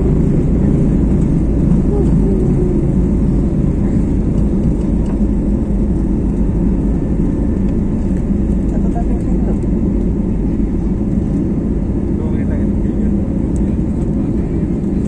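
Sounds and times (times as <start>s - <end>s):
jet engines roaring in cabin: 0.0s - 15.0s.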